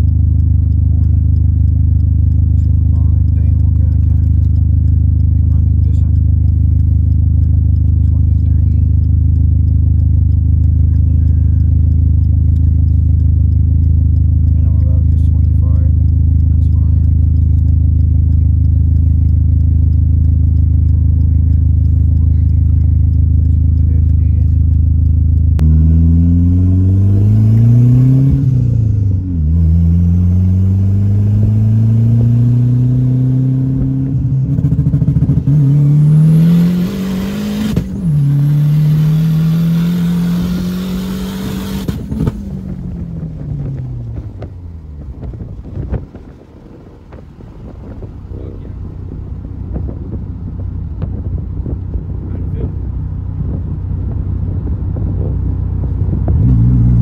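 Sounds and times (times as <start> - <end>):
car engine revving and accelerating: 0.0 - 57.0.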